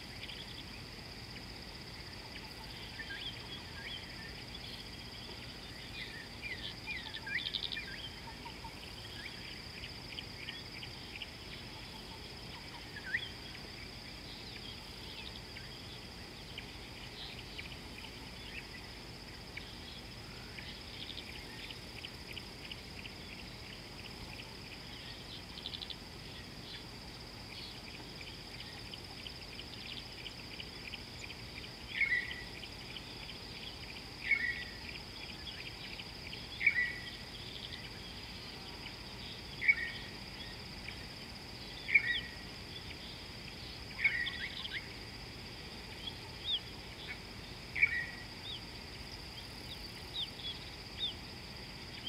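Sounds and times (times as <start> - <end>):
high insect drone: 0.0 - 52.0.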